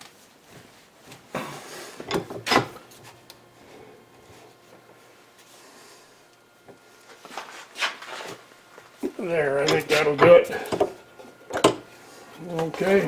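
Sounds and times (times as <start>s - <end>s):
quiet handling: 0.4s - 13.0s.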